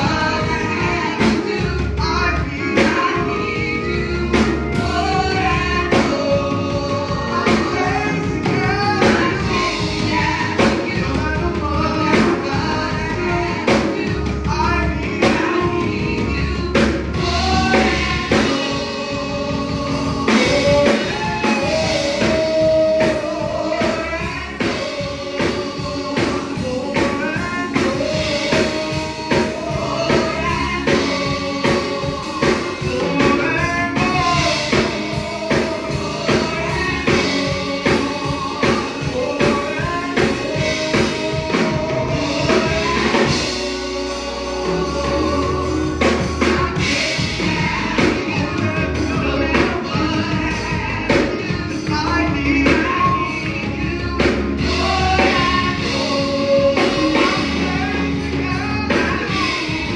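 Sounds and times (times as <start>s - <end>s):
gospel singers singing: 0.0s - 59.9s
live band with drum beat: 0.0s - 59.9s.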